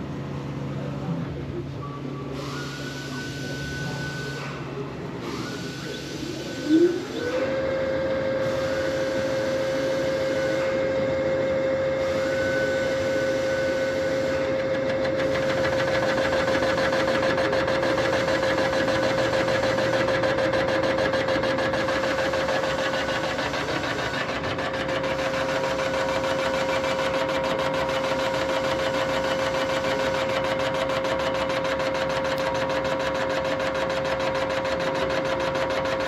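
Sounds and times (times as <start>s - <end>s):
boring machine spindle whining: 5.4s - 36.0s.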